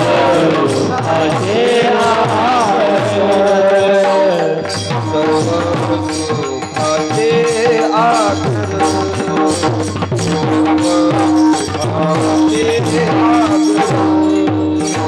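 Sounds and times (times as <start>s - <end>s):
devotional singing: 0.0s - 15.0s
drum strokes: 0.0s - 15.0s
hand cymbal strikes: 0.0s - 15.0s.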